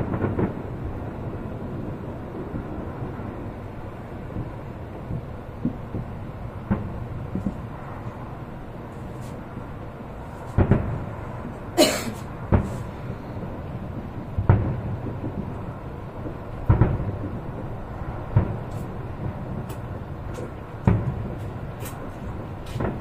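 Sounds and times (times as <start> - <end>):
distant fireworks booms: 0.0 - 23.0
steady low rumble: 0.0 - 23.0.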